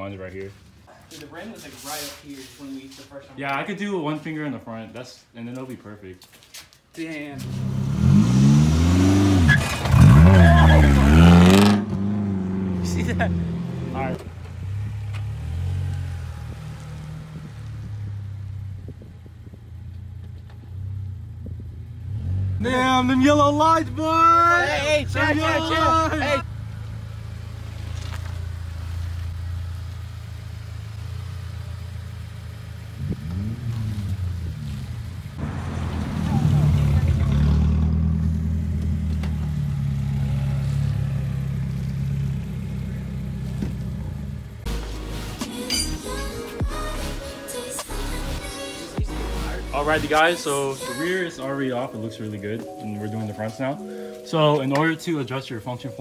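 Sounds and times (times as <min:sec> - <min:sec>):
car engine pulling away: 0:07.4 - 0:56.0.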